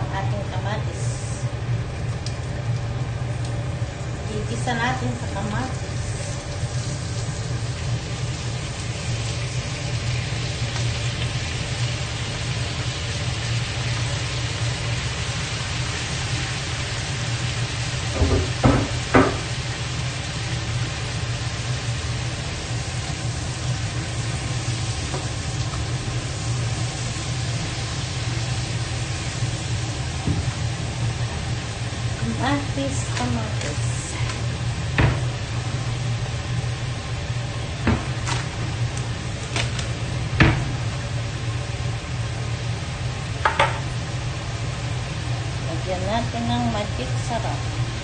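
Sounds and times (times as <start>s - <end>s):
food sizzling in a wok: 0.0s - 48.0s.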